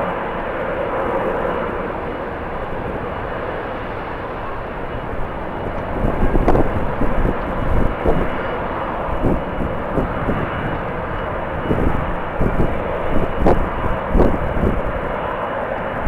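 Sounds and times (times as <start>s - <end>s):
jet engine noise: 0.0s - 16.0s
wind buffeting microphone: 0.0s - 16.0s.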